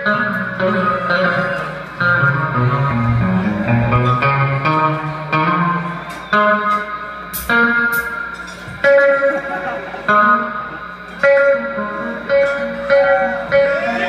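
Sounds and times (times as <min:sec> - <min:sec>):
live band instrumental: 0:00.0 - 0:14.0.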